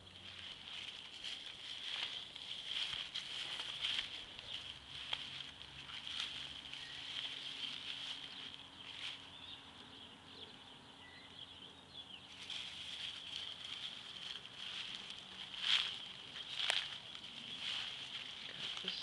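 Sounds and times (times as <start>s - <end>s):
footsteps crunching dry leaves: 0.0s - 9.8s, 12.3s - 19.0s.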